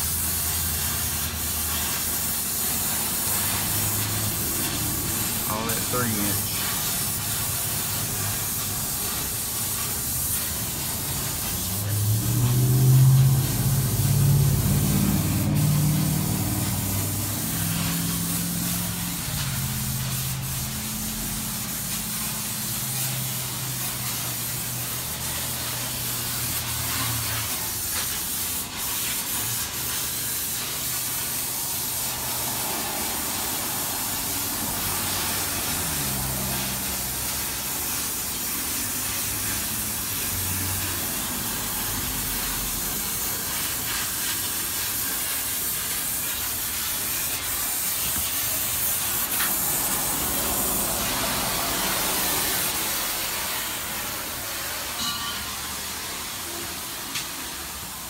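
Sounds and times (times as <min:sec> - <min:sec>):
steady hissing workshop noise: 0:00.0 - 0:58.0.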